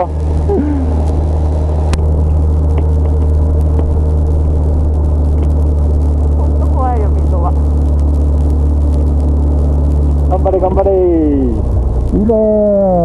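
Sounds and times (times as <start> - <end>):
motorcycle engine drone: 0.0 - 13.0
wind and road noise: 0.0 - 13.0.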